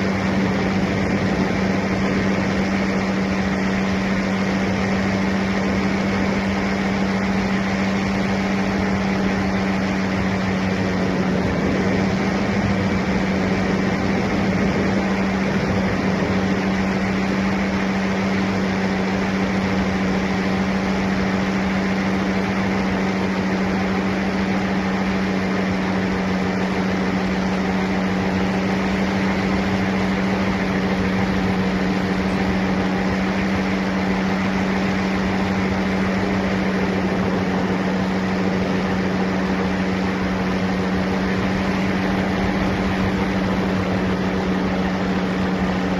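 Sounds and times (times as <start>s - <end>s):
paramotor engine drone: 0.0s - 45.9s.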